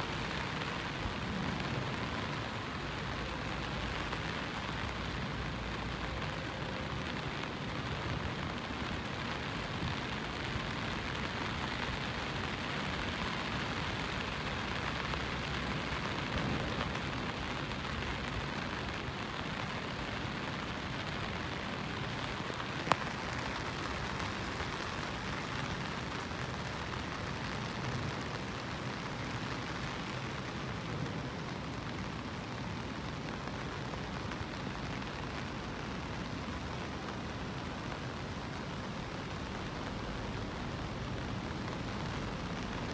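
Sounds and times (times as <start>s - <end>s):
rain on paving and foliage: 0.0s - 42.9s.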